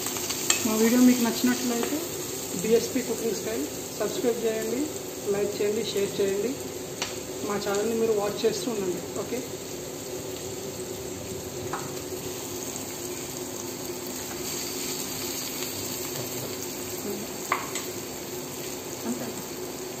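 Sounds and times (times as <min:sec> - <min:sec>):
stir-fry sizzling in a pan: 0:00.0 - 0:20.0.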